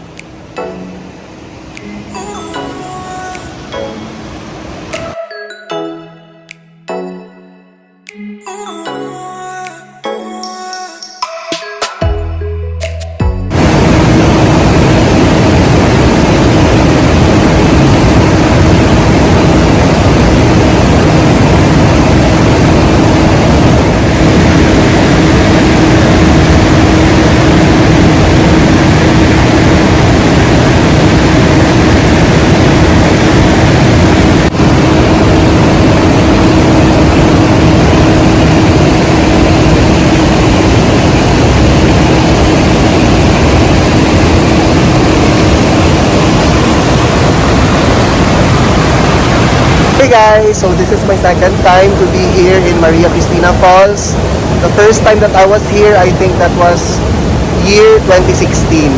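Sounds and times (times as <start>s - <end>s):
faint steady hum: 0.0s - 5.2s, 13.5s - 58.9s.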